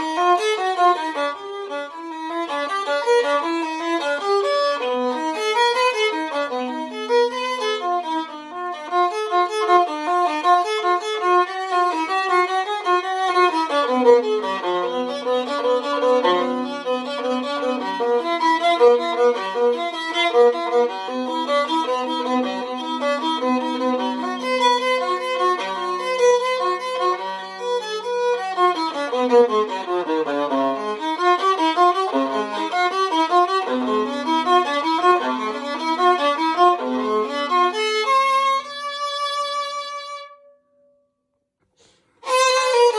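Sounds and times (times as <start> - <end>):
bowed viola melody: 0.0 - 40.6, 42.2 - 42.9.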